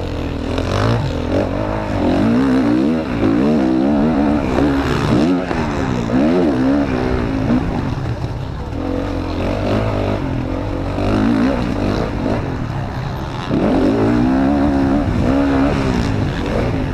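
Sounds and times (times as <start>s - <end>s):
motocross bike engine revving: 0.0s - 16.9s.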